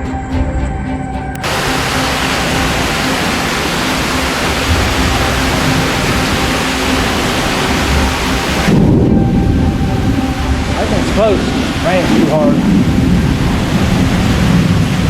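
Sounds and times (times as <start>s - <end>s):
heavy rain and wind: 1.3s - 15.0s.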